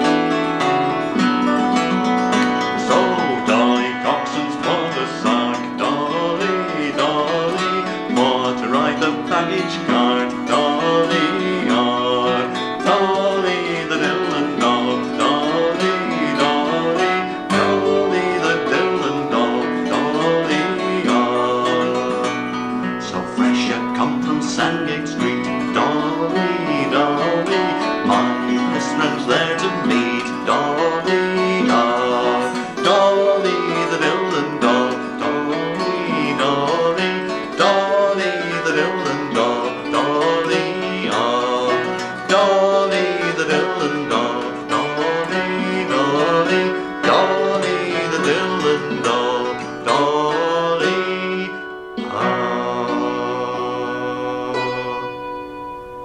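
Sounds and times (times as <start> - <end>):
man singing: 0.0 - 55.5
strummed acoustic guitar: 0.0 - 56.0.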